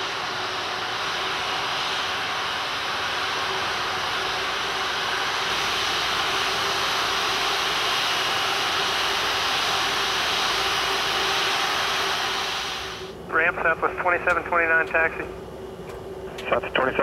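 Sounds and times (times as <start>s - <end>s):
jet engines idling: 0.0s - 17.0s.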